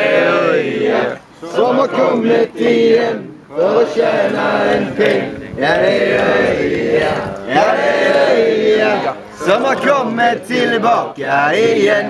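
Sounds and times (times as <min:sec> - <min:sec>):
men singing in unison: 0:00.0 - 0:12.0.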